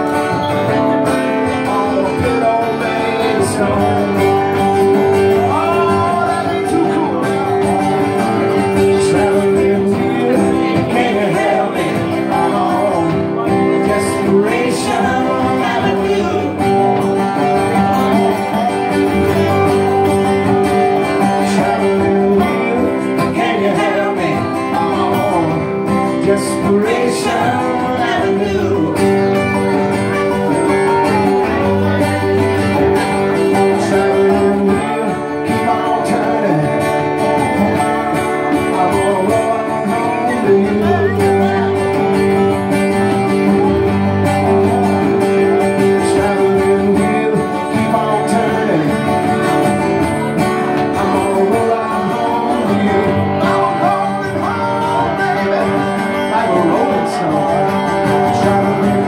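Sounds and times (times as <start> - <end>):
slide resonator guitar: 0.0 - 59.0
strummed acoustic guitars: 0.0 - 59.0.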